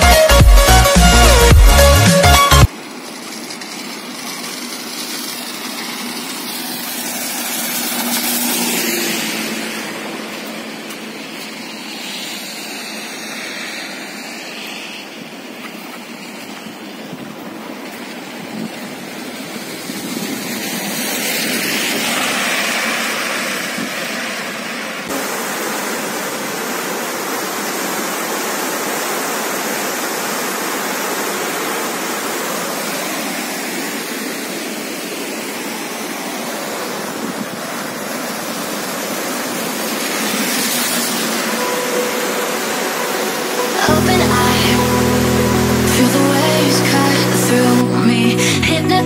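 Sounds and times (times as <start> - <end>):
river rushing roar: 0.0 - 49.0.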